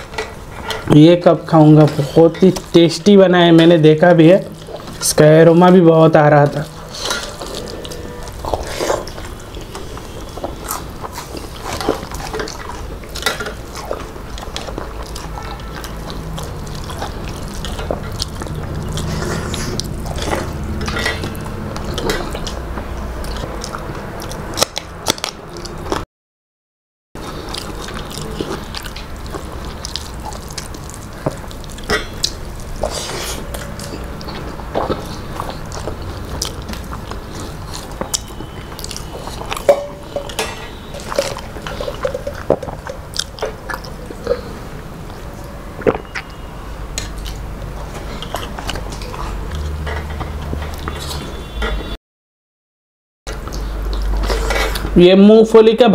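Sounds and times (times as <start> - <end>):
people chewing and eating: 0.0 - 26.0, 27.2 - 52.0, 53.3 - 55.9.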